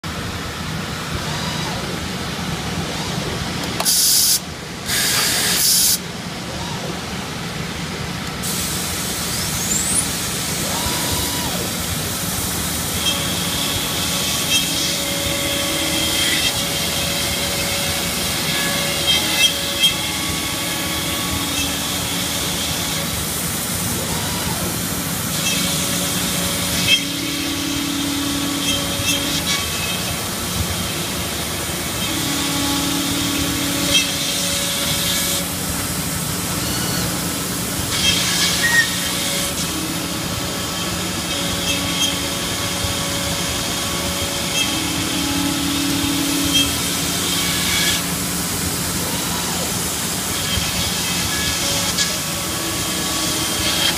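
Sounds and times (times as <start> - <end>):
industrial machine hissing and humming: 0.0 - 53.9.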